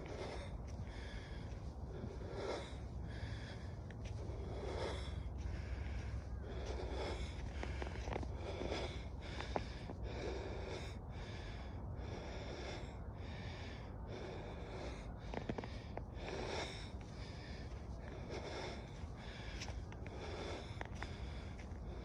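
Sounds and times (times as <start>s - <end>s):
person breathing hard: 0.0s - 22.0s
steady low rumble: 0.0s - 22.0s.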